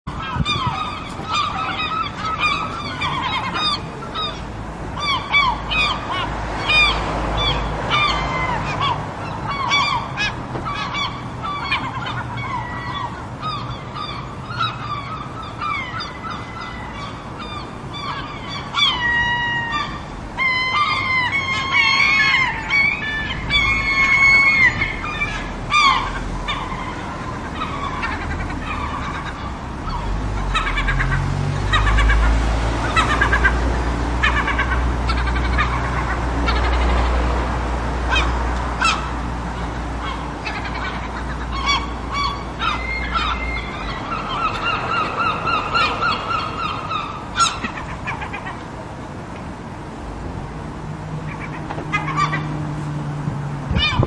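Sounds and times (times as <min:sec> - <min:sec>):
gulls squawking: 0:00.1 - 0:49.8, 0:51.0 - 0:52.8, 0:53.4 - 0:54.0.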